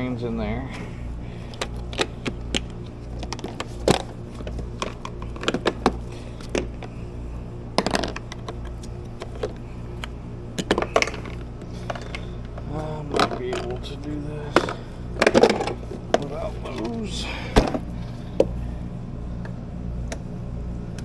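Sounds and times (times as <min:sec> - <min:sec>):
steady machine hum: 0:00.0 - 0:21.0
parts clicking and knocking: 0:00.7 - 0:18.6.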